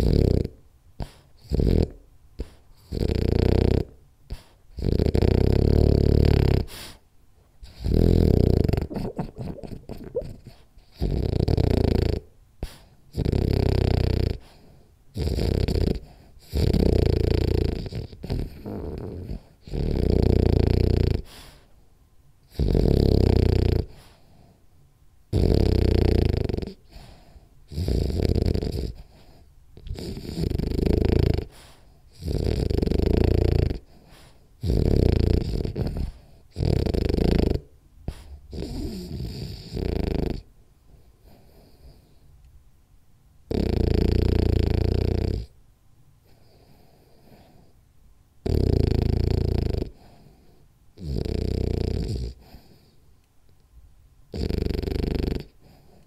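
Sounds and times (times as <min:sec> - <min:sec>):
dog snoring: 0:00.0 - 0:07.0, 0:07.6 - 0:21.7, 0:22.4 - 0:24.6, 0:25.3 - 0:42.2, 0:43.5 - 0:45.6, 0:46.2 - 0:47.8, 0:48.4 - 0:53.0, 0:54.3 - 0:56.0.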